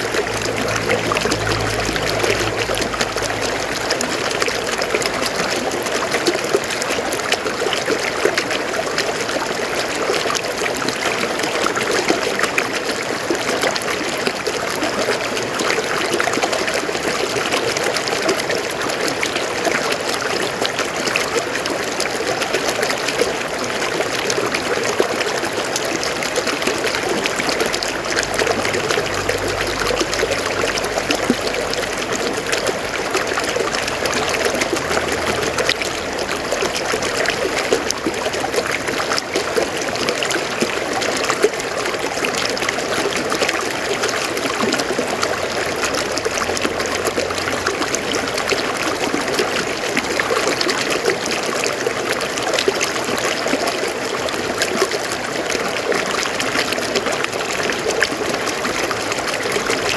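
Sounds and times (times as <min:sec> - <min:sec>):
river water splashing over rocks: 0:00.0 - 0:59.9.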